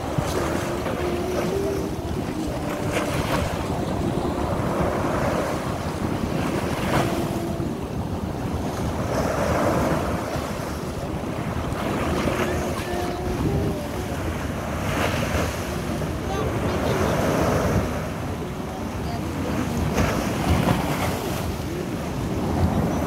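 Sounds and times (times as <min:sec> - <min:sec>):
waves breaking on sandy beach: 0:00.0 - 0:23.0.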